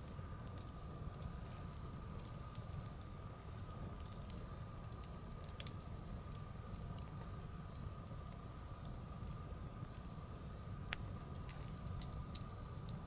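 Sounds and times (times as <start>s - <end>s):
bonfire crackling and popping: 0.0s - 13.0s
faint steady tone: 0.0s - 13.0s
low fire rumble: 0.0s - 13.0s.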